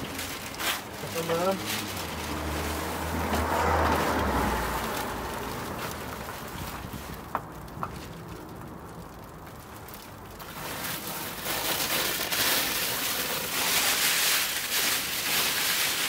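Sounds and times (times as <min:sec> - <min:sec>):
foil insulation rustling and crackling: 0:00.0 - 0:16.0.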